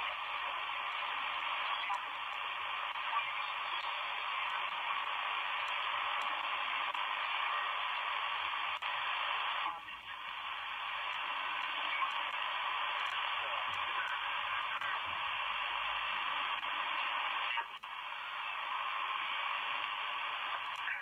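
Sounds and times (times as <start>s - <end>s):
radio band noise hiss: 0.0s - 21.0s.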